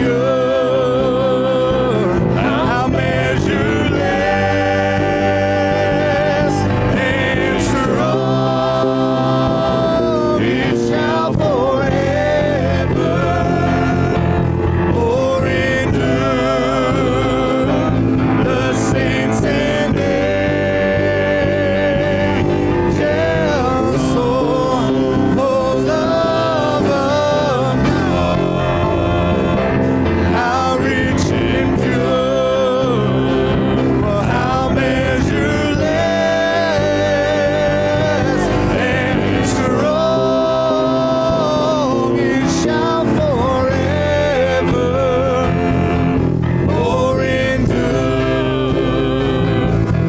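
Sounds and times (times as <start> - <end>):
live worship band playing: 0.0 - 50.0
singers holding wavering notes: 0.0 - 50.0.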